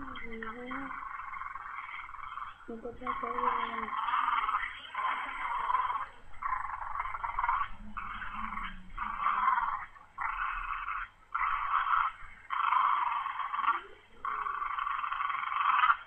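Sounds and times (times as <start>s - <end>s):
dogs growling in play: 0.0s - 16.0s.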